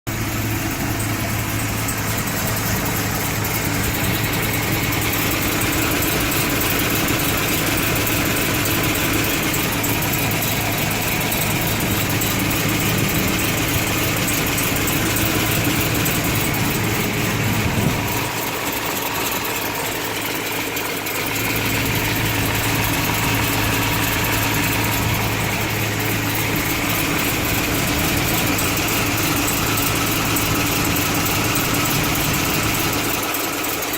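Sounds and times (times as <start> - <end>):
car engine idling: 0.1 - 33.9.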